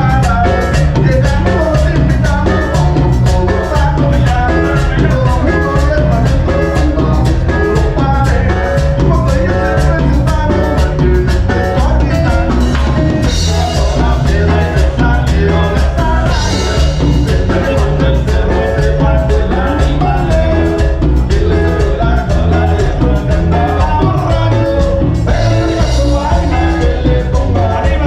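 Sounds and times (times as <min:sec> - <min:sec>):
heavy bass: 0:00.0 - 0:28.0
live band playing: 0:00.0 - 0:28.0
percussion beat: 0:00.0 - 0:28.0.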